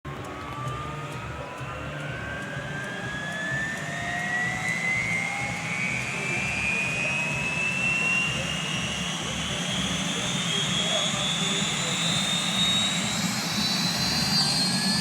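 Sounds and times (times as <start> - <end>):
helicopter turbine whine: 0.1 - 15.0.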